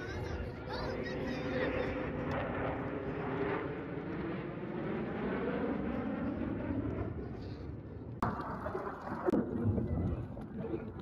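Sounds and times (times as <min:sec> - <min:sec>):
jet engine flying overhead: 0:00.0 - 0:11.0.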